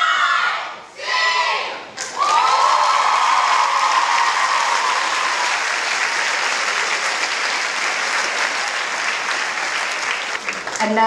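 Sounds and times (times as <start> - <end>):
group cheering: 0.0 - 10.7
crowd applauding: 2.0 - 11.0.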